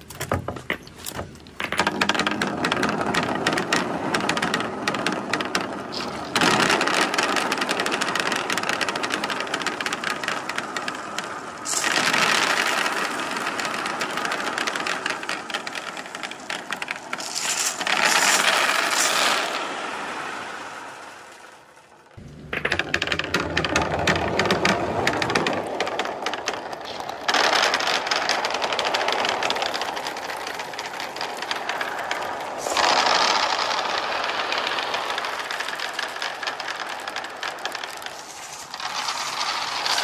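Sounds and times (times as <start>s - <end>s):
balls and marbles clattering down board: 0.0s - 40.0s.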